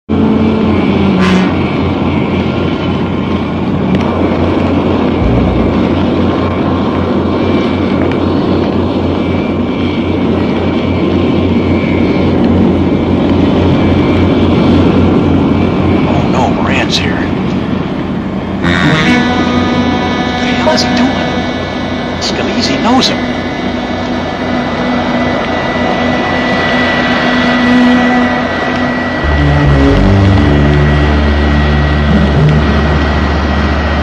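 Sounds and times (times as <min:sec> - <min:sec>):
aircraft engines running: 0:00.1 - 0:34.0.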